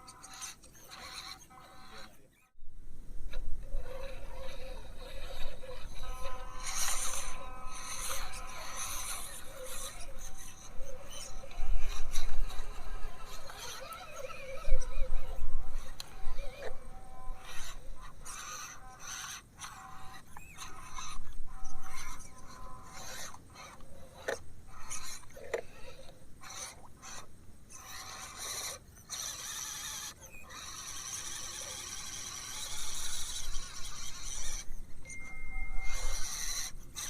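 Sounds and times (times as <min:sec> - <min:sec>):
small electric motors whining: 0:00.0 - 0:37.0.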